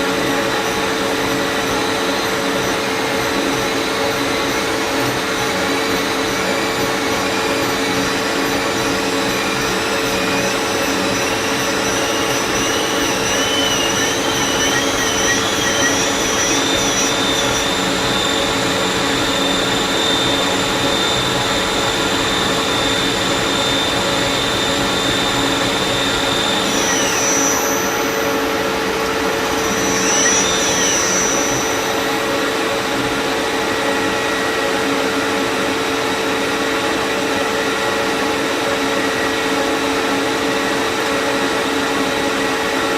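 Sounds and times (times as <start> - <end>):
lathe motor hum and whine: 0.0 - 42.9.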